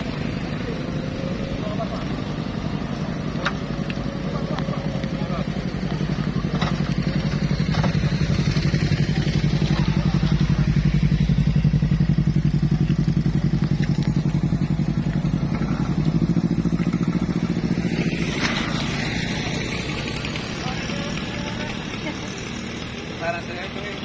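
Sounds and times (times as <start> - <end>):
vehicle engine running under load: 0.0 - 24.0.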